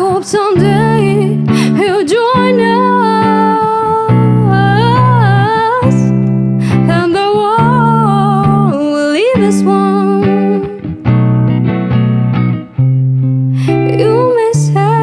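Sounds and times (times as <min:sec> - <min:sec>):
woman singing: 0:00.0 - 0:11.0, 0:13.6 - 0:15.0
electric guitar chords: 0:00.0 - 0:15.0.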